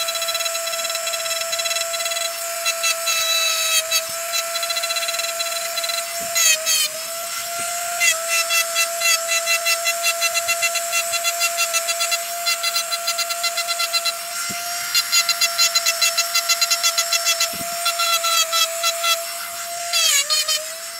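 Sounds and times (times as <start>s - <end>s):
engraving tool motor whining: 0.0s - 20.9s
bit scratching stone: 0.4s - 20.6s.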